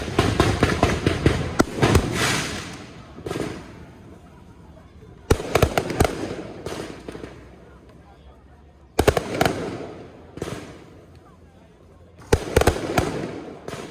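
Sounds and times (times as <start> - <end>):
fireworks bangs: 0.0 - 7.8, 9.0 - 11.2, 12.2 - 13.9.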